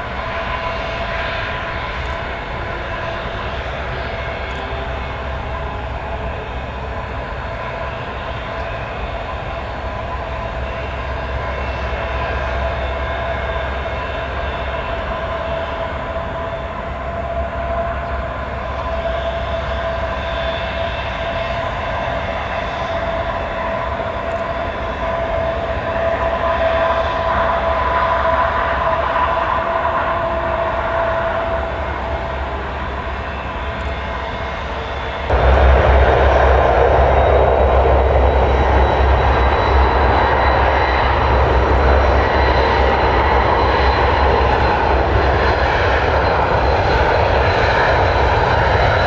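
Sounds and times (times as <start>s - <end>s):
jet engines whining: 0.0s - 49.0s.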